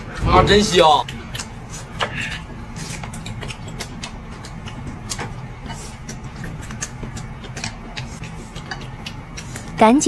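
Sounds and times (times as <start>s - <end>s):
steady low hum: 0.0s - 10.0s
chewing: 1.0s - 10.0s.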